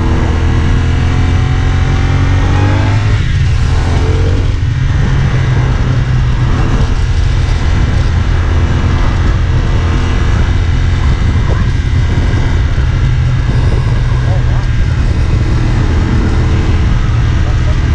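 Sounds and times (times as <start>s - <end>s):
motorcycle engine droning: 0.0s - 17.9s.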